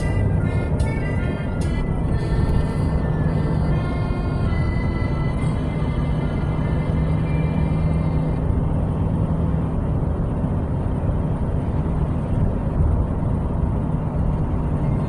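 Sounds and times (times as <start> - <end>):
hum: 0.0 - 15.0
low rumbling drone: 0.0 - 15.0.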